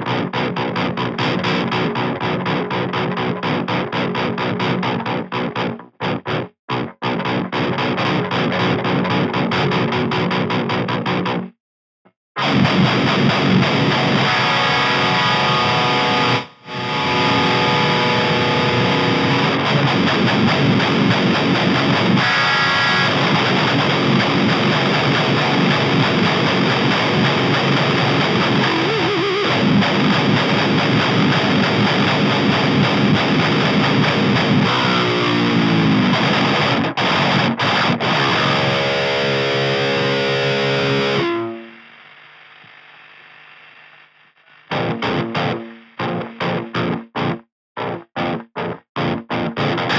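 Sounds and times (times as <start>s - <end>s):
distorted electric guitar riff: 0.0s - 11.6s, 12.4s - 49.9s.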